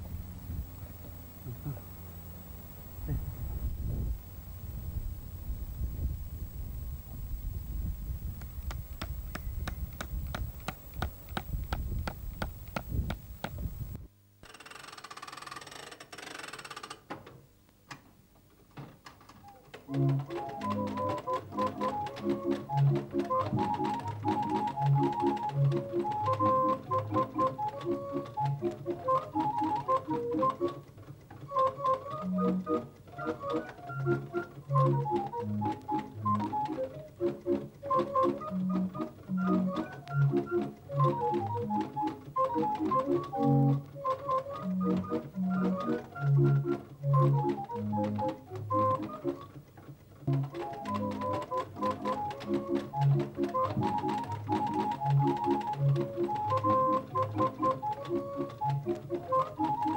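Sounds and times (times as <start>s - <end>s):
organ music with bouncing bass: 0.0s - 14.1s, 19.9s - 30.8s, 31.5s - 49.5s, 50.3s - 59.9s
faint regular ticks: 0.0s - 17.0s, 19.0s - 59.9s.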